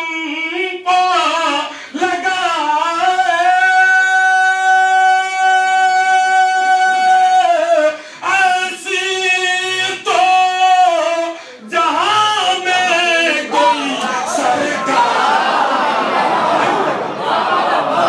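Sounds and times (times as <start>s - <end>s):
man chanting into a microphone: 0.0s - 15.1s.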